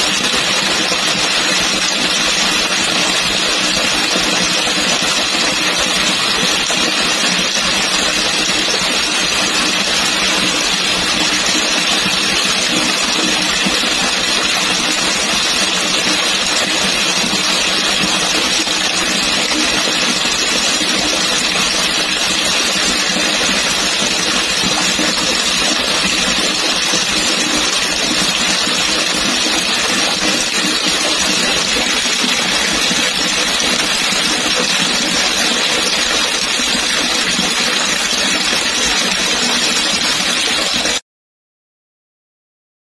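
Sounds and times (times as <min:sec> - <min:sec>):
heavy rain splashing on ground: 0:00.0 - 0:41.0.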